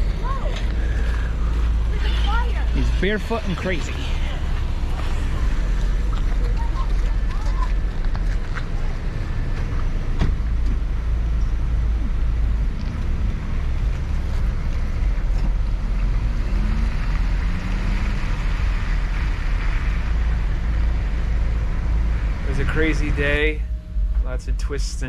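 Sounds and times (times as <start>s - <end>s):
vehicle on wet road: 0.0s - 25.0s.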